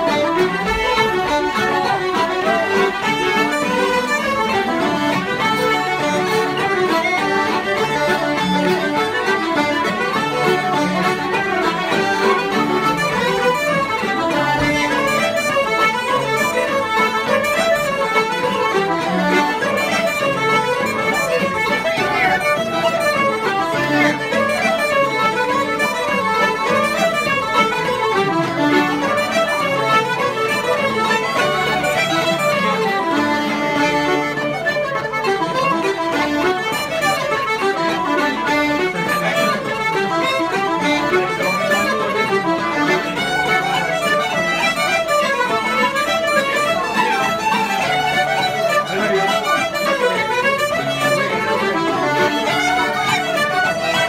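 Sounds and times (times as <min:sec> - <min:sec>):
fiddle playing: 0:00.0 - 0:54.0
guitar strumming: 0:00.0 - 0:54.0
wooden flute: 0:00.0 - 0:54.0.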